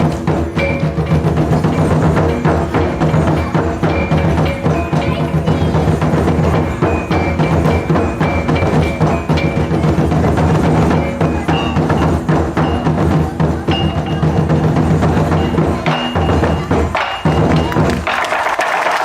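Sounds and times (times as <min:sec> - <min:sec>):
taiko drums in fast rhythm: 0:00.0 - 0:19.0.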